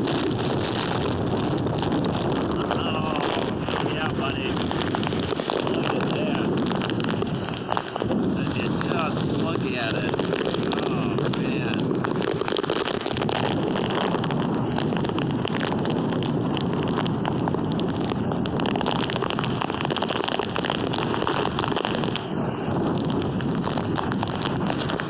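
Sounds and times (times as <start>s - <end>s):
driving rain crackling: 0.0s - 25.0s
wind buffeting microphone: 0.0s - 25.0s.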